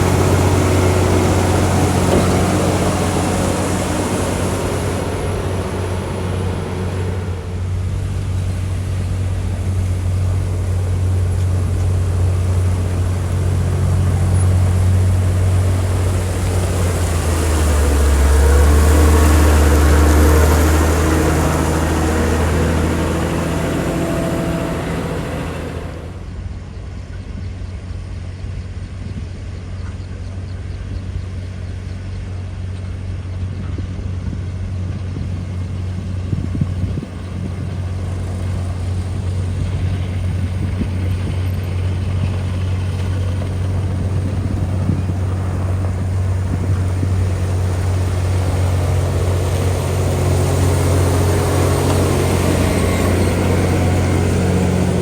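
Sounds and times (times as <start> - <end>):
heavy diesel engine drone: 0.0 - 55.0.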